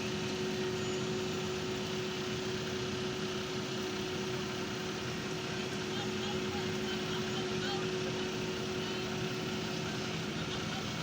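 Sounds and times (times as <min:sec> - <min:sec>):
road-paving machinery running: 0:00.0 - 0:11.0.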